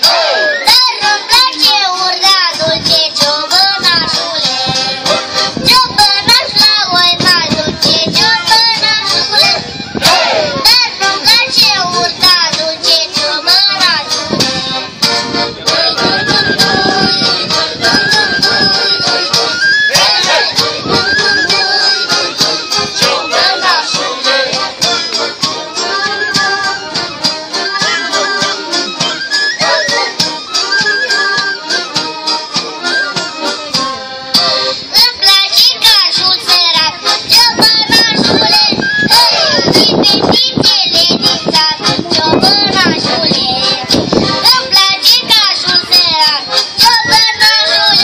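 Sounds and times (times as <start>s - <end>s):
instrumental folk dance music: 0.0s - 48.0s.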